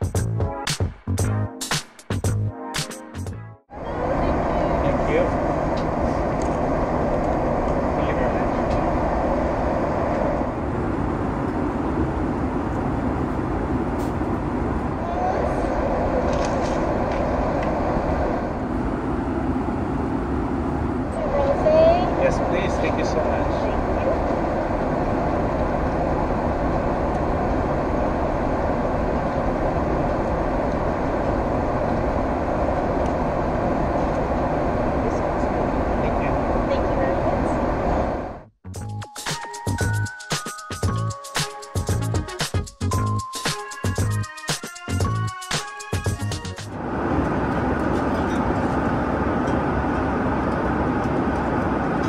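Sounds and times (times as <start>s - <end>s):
airplane cabin engine rumble: 3.7s - 39.0s, 44.9s - 52.0s.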